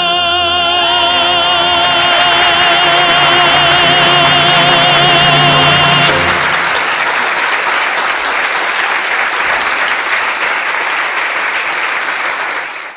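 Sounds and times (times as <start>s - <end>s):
audience applauding: 1.1s - 12.9s.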